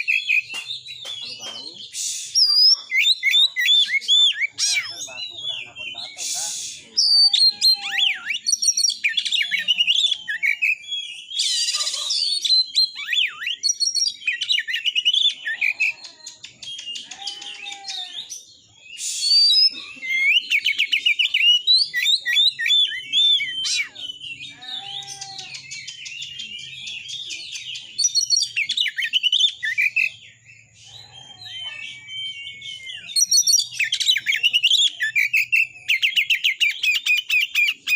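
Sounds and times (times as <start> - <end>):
songbird singing: 0.0 - 37.9.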